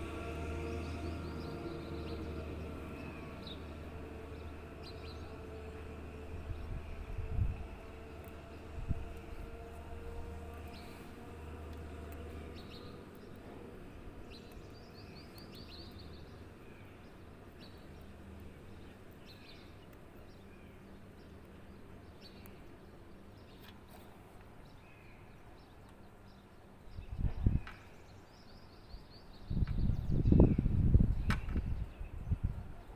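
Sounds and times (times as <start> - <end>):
birds chirping: 0.0 - 6.8, 7.9 - 32.9.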